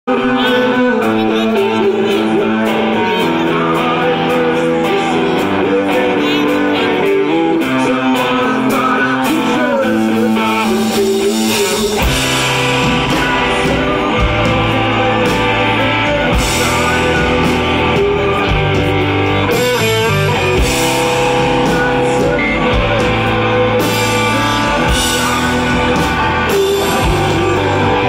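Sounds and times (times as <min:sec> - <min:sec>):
band playing low notes: 0:00.1 - 0:28.0
electric guitar through amplifier: 0:00.1 - 0:28.0.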